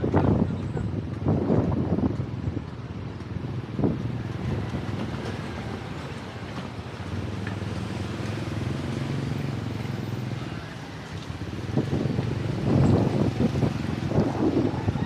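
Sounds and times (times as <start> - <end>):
road traffic: 0.0 - 15.0
wind rumbling on microphone: 0.0 - 15.0.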